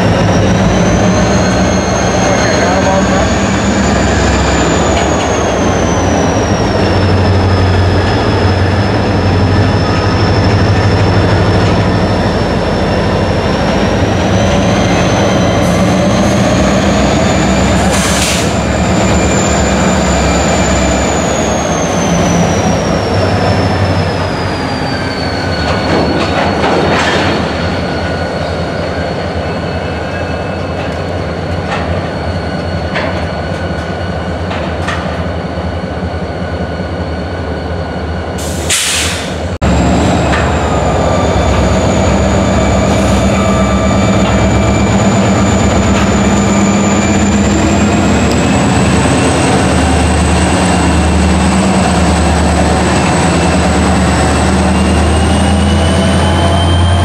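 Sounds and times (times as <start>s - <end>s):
wheel flange squeal: 0.0s - 34.4s, 35.4s - 57.0s
locomotive engine drone: 0.0s - 57.0s.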